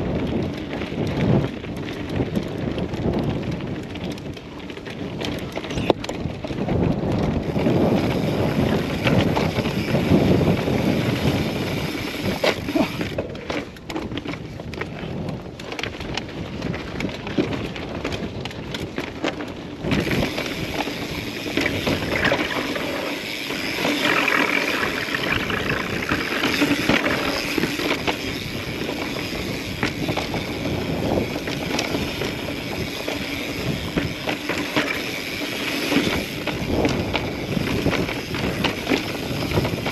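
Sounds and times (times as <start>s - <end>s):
bike knocking and rattling: 0.0s - 39.9s
bike tyres rumbling on stone: 0.0s - 39.9s.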